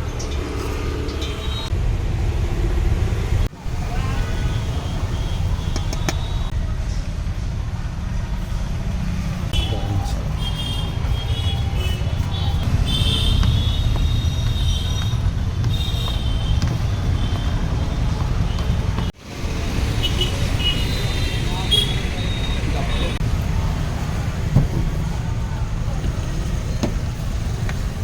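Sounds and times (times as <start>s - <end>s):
passing vehicles rumble: 0.0s - 28.0s.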